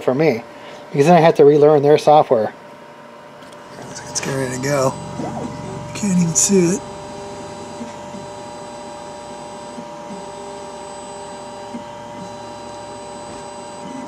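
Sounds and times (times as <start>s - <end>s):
three d printer whine: 2.6s - 14.0s.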